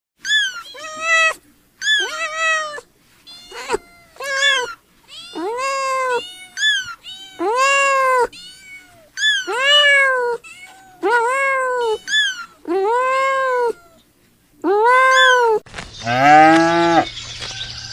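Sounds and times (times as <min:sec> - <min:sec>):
cats meowing: 0:00.2 - 0:14.0, 0:14.7 - 0:15.6.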